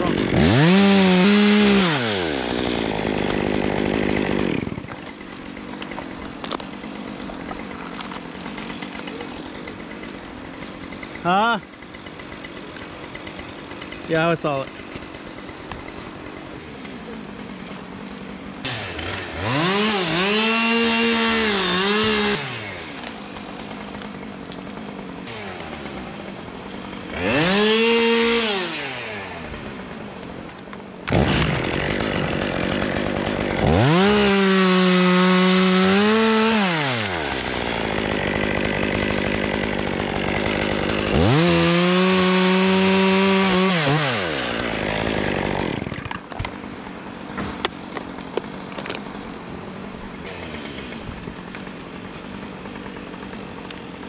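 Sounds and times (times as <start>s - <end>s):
chainsaw revving: 0.0s - 30.2s, 31.0s - 46.5s, 50.2s - 54.0s
chainsaw idling: 0.0s - 54.0s.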